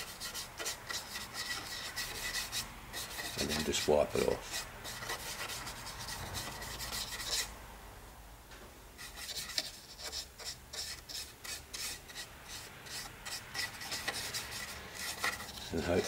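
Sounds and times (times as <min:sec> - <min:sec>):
stiff brush scrubbing plastic: 0:00.0 - 0:07.5, 0:09.0 - 0:16.0.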